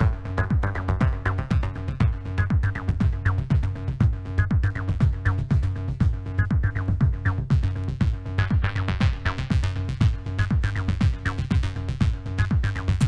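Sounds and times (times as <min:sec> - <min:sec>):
droning synthesizer bass: 0:00.0 - 0:13.0
drum machine beat: 0:00.0 - 0:13.0.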